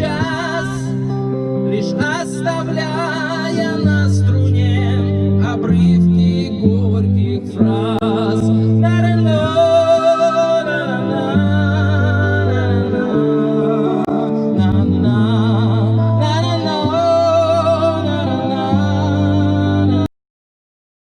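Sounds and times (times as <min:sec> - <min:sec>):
acoustic guitar: 0:00.0 - 0:20.1
man singing: 0:00.0 - 0:20.1.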